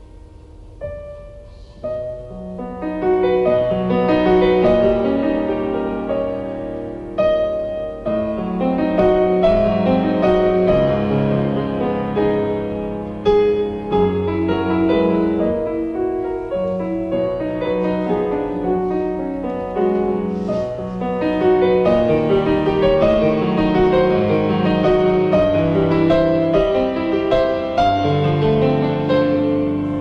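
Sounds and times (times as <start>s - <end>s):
slow keyboard chords: 0.0s - 30.0s.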